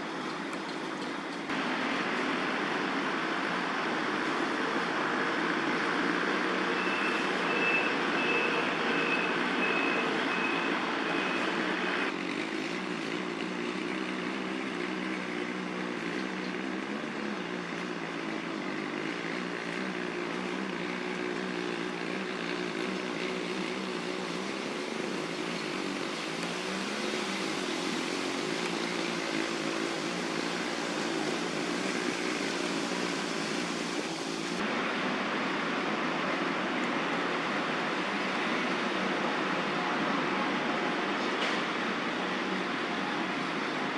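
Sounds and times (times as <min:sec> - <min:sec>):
city road traffic rumble: 0:00.0 - 0:43.9.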